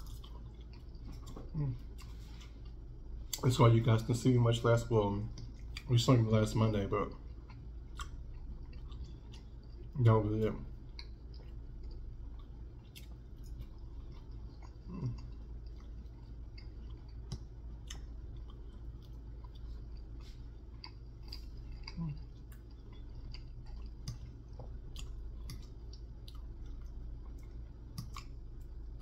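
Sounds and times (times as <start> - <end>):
person chewing food: 0.0 - 3.4, 5.3 - 6.0, 6.6 - 29.0
low steady hum: 0.0 - 29.0.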